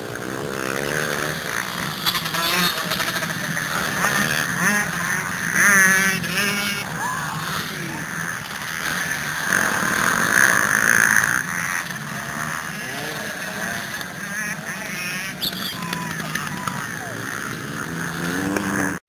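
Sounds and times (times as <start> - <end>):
motocross bike engines racing: 0.0 - 19.0.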